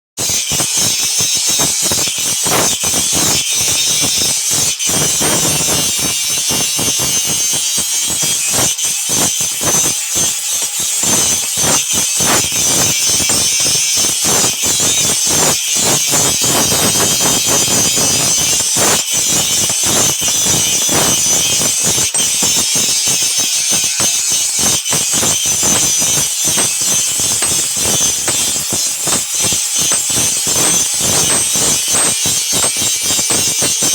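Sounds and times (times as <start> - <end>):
tool grinding steel: 0.2 - 33.9.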